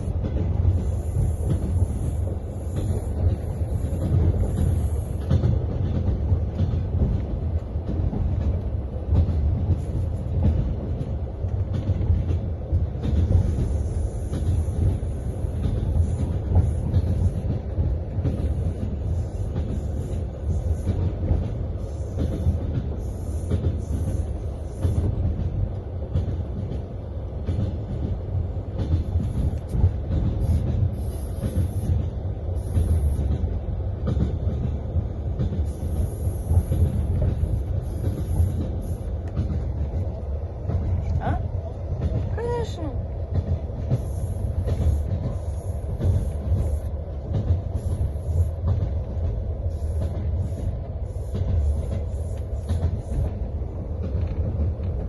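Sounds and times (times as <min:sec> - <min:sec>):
train carriage rumble: 0:00.0 - 0:55.0
train wheels clattering over rails: 0:00.0 - 0:55.0.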